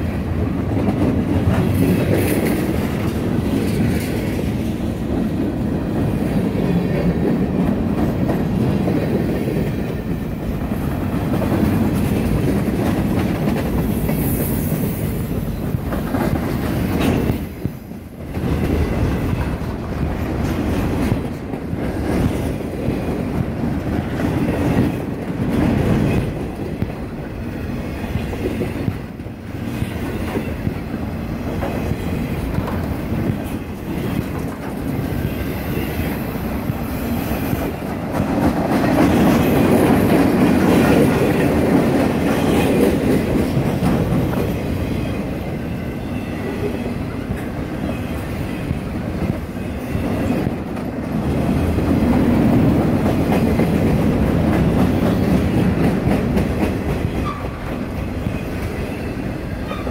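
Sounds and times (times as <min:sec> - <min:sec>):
freight train wheels rumbling: 0:00.0 - 0:59.9
train wheels clacking: 0:00.0 - 0:59.9.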